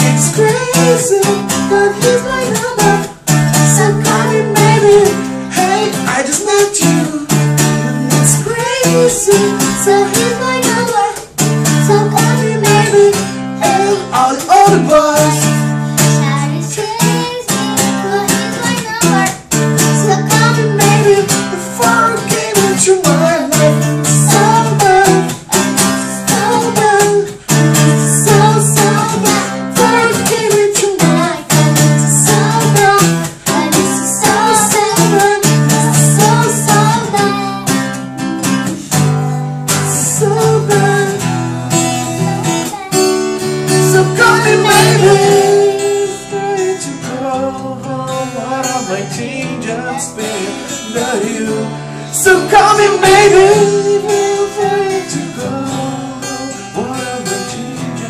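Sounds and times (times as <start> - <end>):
person singing: 0.0 - 58.0
strummed acoustic guitar: 0.0 - 58.0.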